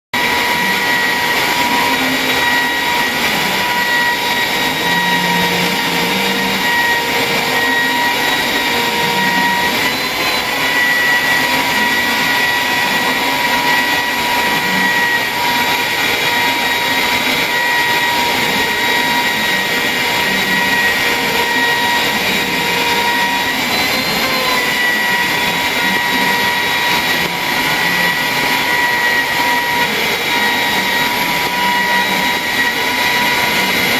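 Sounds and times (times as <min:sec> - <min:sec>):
router spindle whining: 0:00.1 - 0:33.9.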